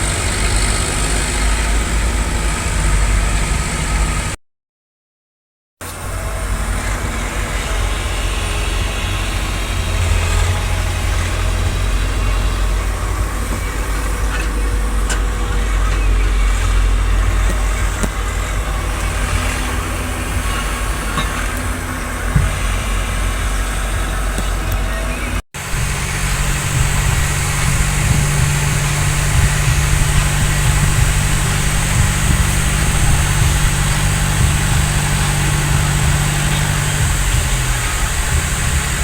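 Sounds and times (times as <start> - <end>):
tractor engine running: 0.0 - 4.4, 5.8 - 39.0.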